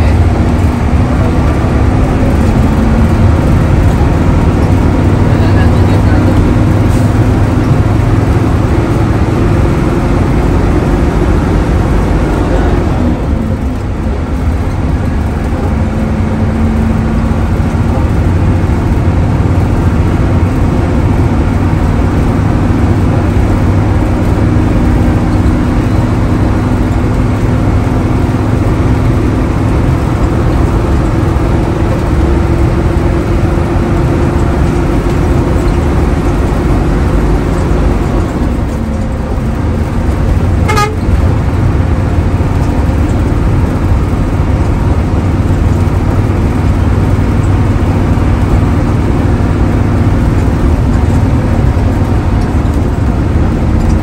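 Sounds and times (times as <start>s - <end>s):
bus diesel engine rumble: 0.0s - 54.0s.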